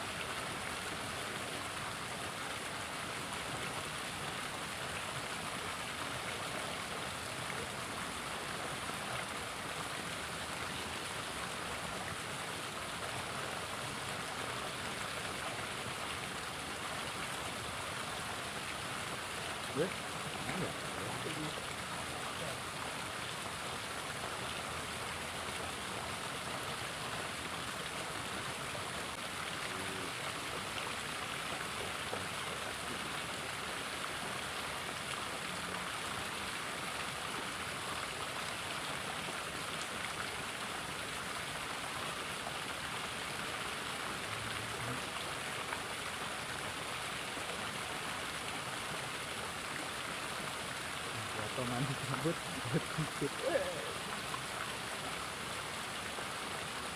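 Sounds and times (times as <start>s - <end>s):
small river flowing: 0.0s - 56.9s.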